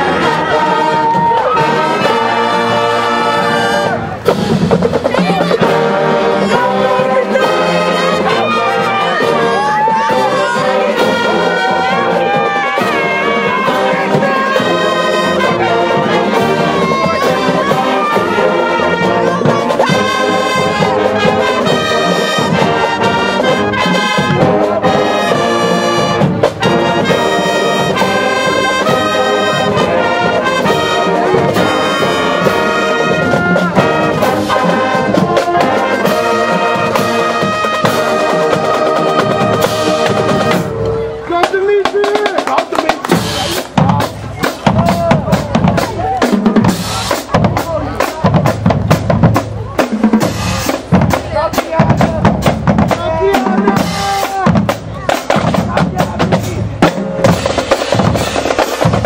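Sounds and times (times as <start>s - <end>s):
marching band brass: 0.0s - 59.0s
steady drum beat: 0.0s - 59.0s.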